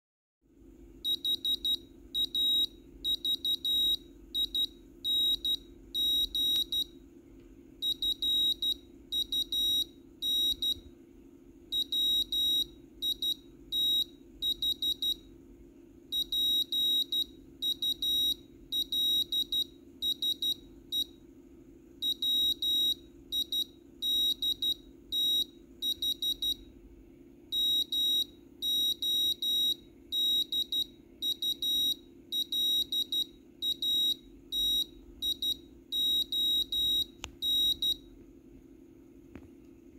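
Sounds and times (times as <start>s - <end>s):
buzzer beeping morse code: 1.0s - 7.0s, 7.8s - 10.9s, 11.7s - 15.3s, 16.1s - 21.2s, 22.0s - 26.7s, 27.5s - 38.1s.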